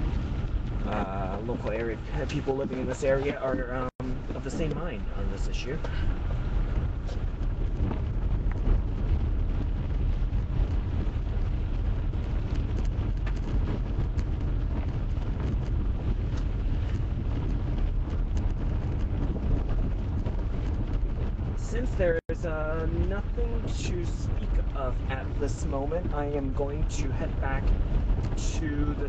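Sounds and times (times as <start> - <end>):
road and engine rumble in car: 0.0 - 29.0
wind noise: 0.0 - 29.0.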